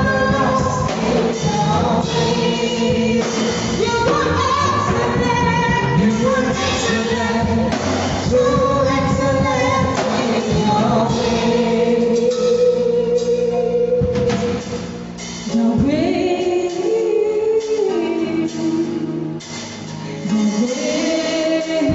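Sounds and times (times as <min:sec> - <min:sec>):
gospel singing with accompaniment: 0:00.0 - 0:21.9.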